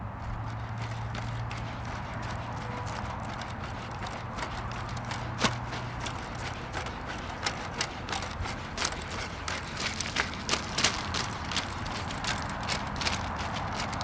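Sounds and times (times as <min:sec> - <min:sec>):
robot feet clicking on pebbles: 0:00.2 - 0:14.0.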